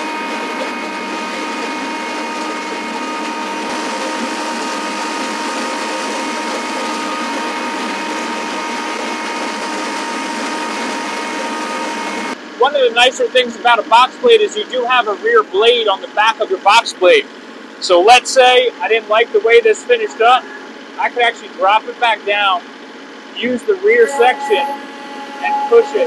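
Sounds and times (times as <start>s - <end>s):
machinery humming with high whine: 0.0s - 26.0s.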